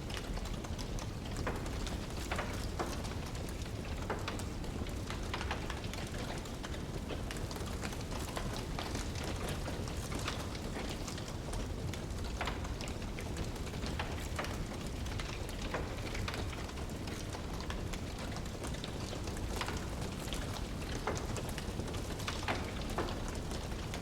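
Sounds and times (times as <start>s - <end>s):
logs crackling and popping: 0.0s - 24.0s
low rumble of flames: 0.0s - 24.0s.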